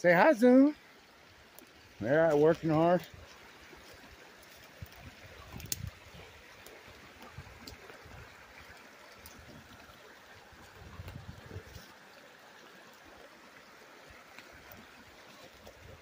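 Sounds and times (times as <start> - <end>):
river trickling over rocks: 0.0 - 16.0.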